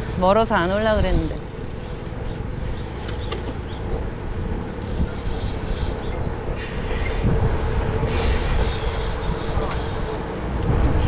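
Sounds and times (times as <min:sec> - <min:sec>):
bike tyre noise: 0:00.0 - 0:11.0
wind rushing over microphone: 0:00.0 - 0:11.0.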